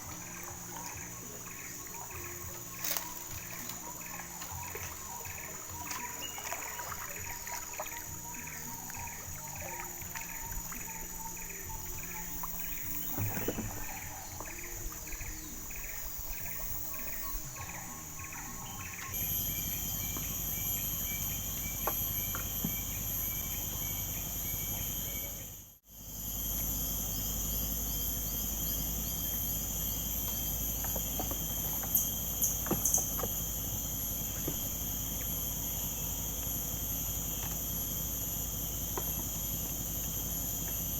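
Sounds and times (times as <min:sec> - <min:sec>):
insect drone: 0:00.0 - 0:40.9
insects trilling: 0:00.0 - 0:40.9.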